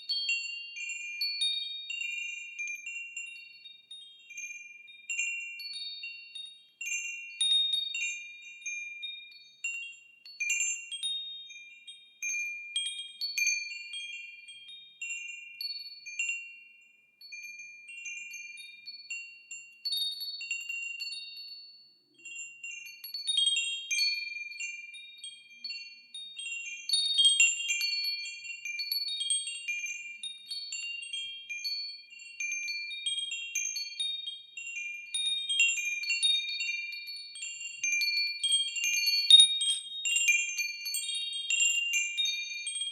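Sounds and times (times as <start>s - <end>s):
wind chimes ringing: 0.0s - 42.9s.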